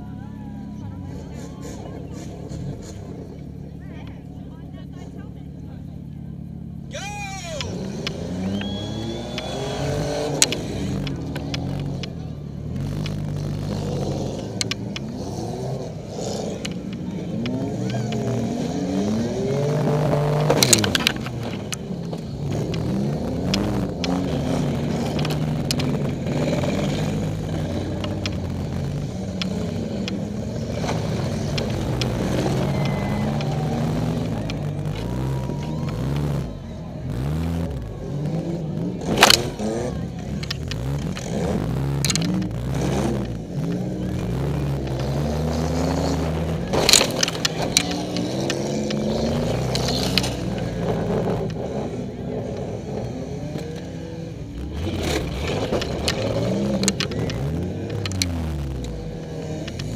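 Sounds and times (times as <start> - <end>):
car engine revving: 0.0 - 59.9
cars crashing: 6.8 - 59.9.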